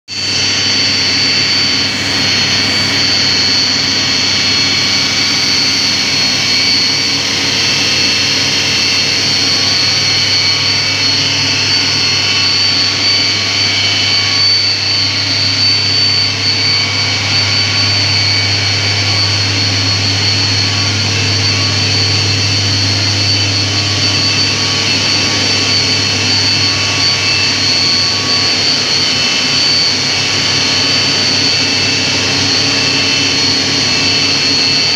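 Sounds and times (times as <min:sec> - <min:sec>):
turbine high-pitched whine: 0:00.1 - 0:34.9
deep even hum: 0:00.2 - 0:34.9.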